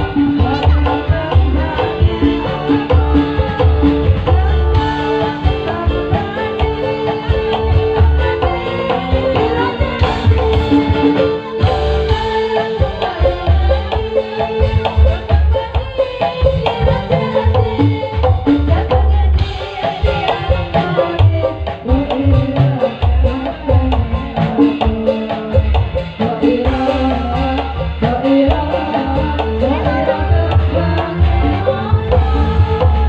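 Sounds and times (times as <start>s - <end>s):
folk music: 0.0s - 33.0s
hand drums beating: 0.0s - 33.0s.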